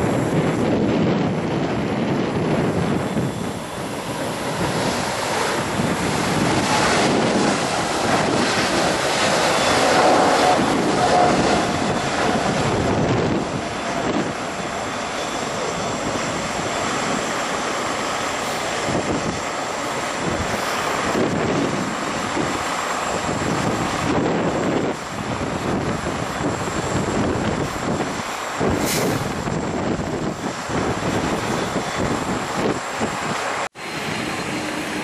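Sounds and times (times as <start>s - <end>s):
jet engines at takeoff: 0.0s - 35.0s
wind buffeting on microphone: 0.0s - 35.0s.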